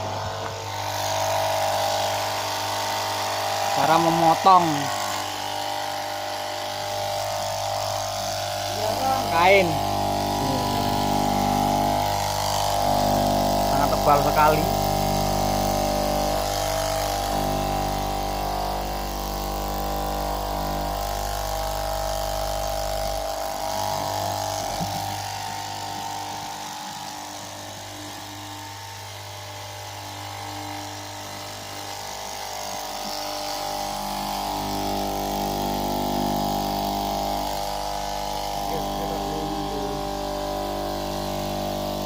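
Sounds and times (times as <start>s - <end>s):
cloth cutting machine motor hum: 0.0s - 42.0s.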